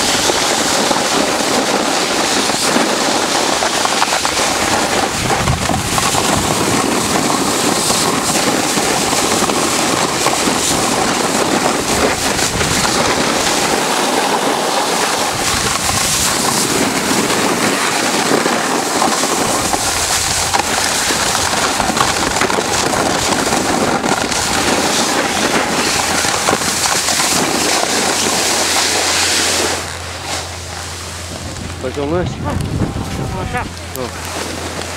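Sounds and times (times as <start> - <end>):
snowboard scraping over snow: 0.0 - 34.9
wind on the microphone: 0.0 - 34.9.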